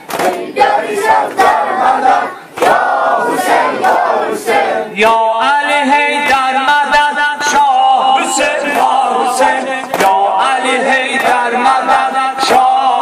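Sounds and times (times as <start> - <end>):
crowd of men chanting: 0.0 - 13.0
men chanting a lament: 0.0 - 13.0.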